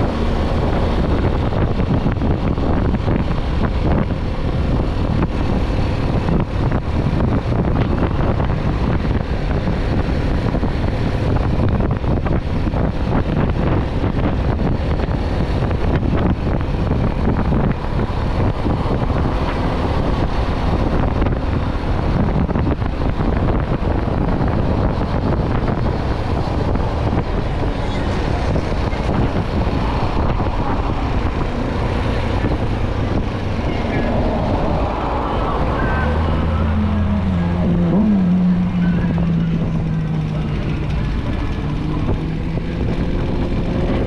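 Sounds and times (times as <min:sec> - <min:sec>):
motorcycle engine: 0:00.0 - 0:44.0
road noise: 0:00.0 - 0:44.0
wind rushing over microphone: 0:00.0 - 0:44.0.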